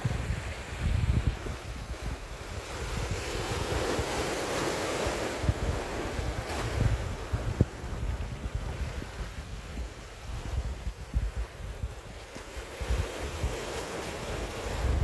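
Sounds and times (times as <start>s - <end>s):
ocean waves breaking: 0.0s - 15.0s
wind buffeting microphone: 0.0s - 15.0s.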